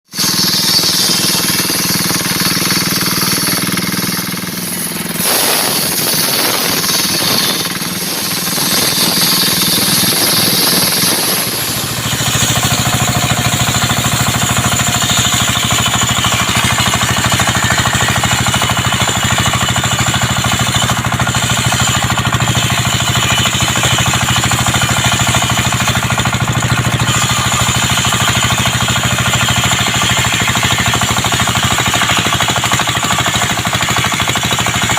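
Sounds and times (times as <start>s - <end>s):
circular saw cutting wood: 0.1s - 34.9s.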